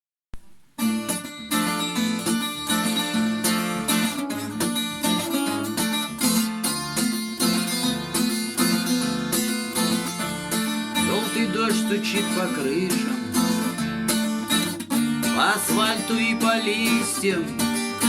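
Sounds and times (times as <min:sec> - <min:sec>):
acoustic guitar strumming: 0:00.4 - 0:18.0.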